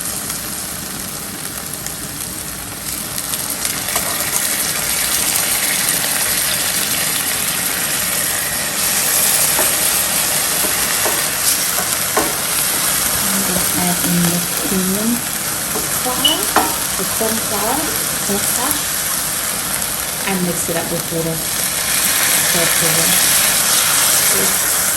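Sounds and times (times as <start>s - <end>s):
onion sizzling in frying pan: 0.0s - 24.9s.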